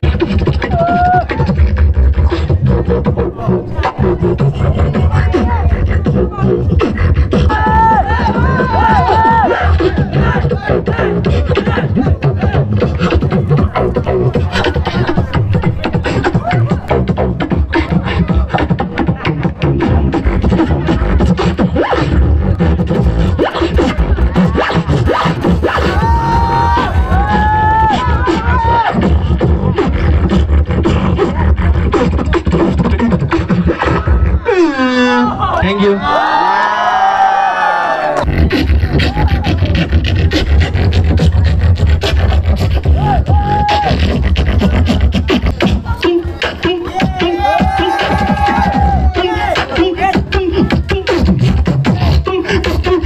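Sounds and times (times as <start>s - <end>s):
beatboxing into microphone: 0.0s - 53.0s
held pitched vocal tone: 0.0s - 53.0s.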